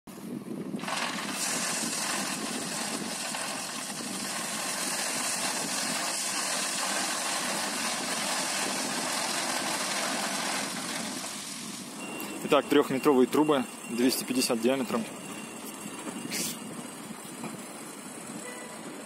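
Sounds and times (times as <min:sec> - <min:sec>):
diesel truck engine running: 0:00.4 - 0:19.0.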